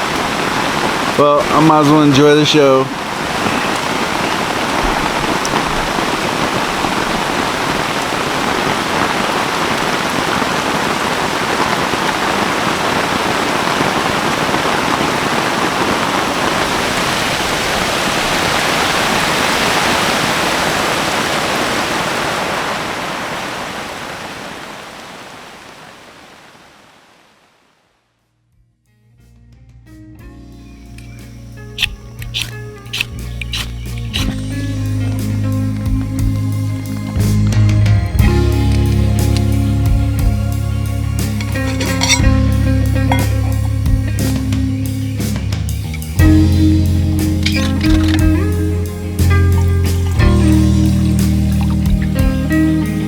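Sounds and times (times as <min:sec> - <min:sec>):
rain falling steadily: 0:00.0 - 0:28.1, 0:30.9 - 0:53.0.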